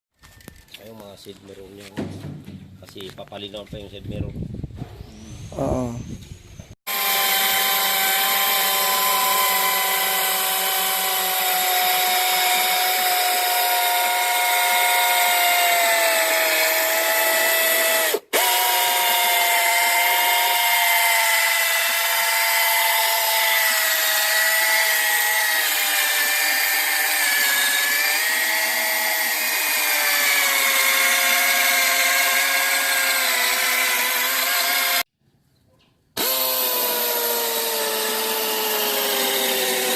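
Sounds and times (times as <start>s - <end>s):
power tool whining: 4.8s - 35.1s, 36.2s - 39.9s.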